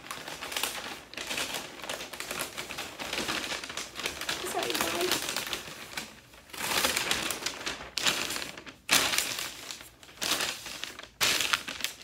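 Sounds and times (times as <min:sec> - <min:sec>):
paper rustling and crackling: 0:00.0 - 0:12.0.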